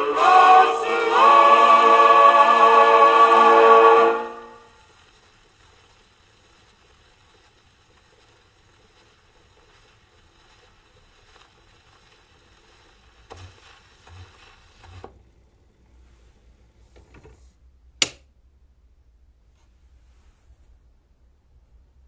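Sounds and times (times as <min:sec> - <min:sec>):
record surface hiss and crackle: 0:00.0 - 0:22.0.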